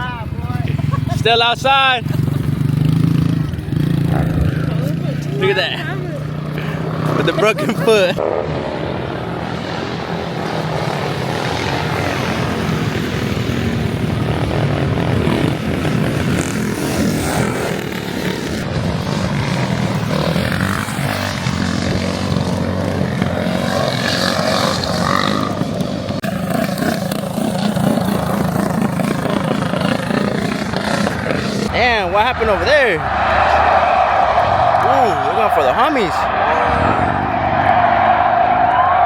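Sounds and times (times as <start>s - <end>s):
small motorbike engines droning: 0.0s - 39.0s.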